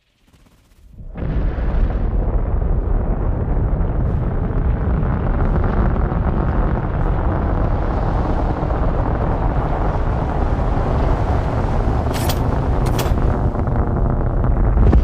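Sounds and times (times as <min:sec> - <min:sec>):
low rumble of rushing sand: 0:00.9 - 0:15.0.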